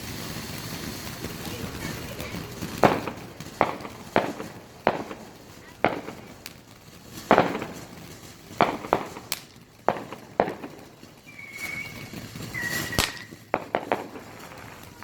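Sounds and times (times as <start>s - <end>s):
fireworks bangs: 0.0s - 15.0s
fireworks whistles: 0.0s - 15.0s.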